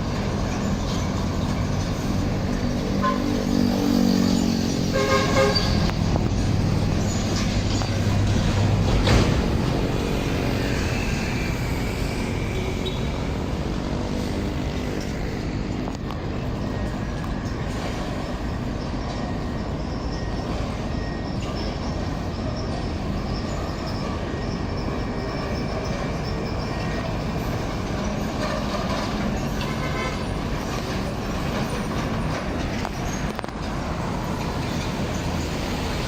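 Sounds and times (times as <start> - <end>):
heavy truck engines passing: 0.0 - 36.0
roadside traffic: 0.0 - 36.0.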